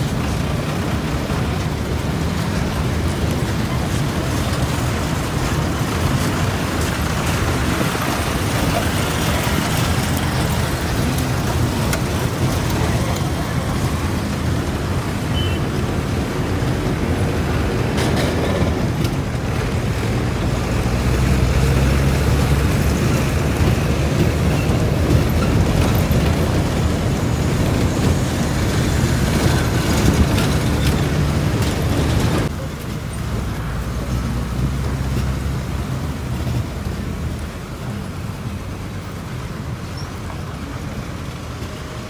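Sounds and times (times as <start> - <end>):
tyre and wind hiss: 0.0 - 42.0
vehicle engine drone: 0.0 - 42.0.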